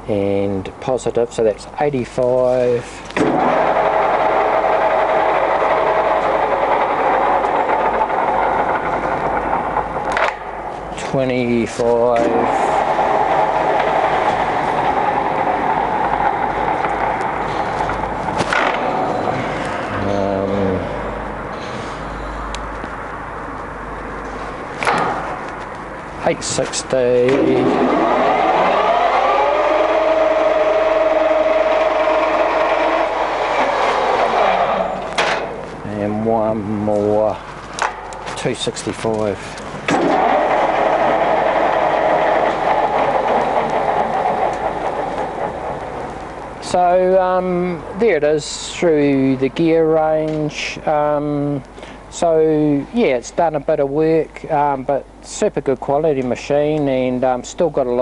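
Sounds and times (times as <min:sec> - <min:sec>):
lathe gearing clatter: 0:02.2 - 0:20.0, 0:24.0 - 0:52.8.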